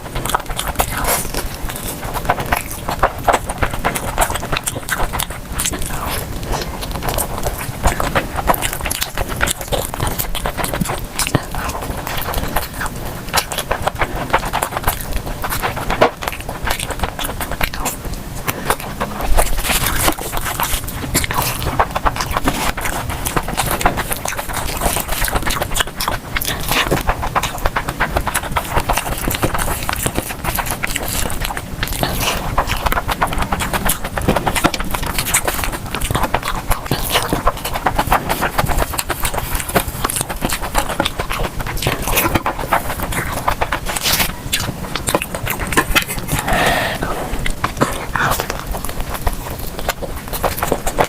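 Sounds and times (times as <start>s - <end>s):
chewing with mouth clicks: 0.0s - 51.0s
lip smacking: 0.0s - 51.0s.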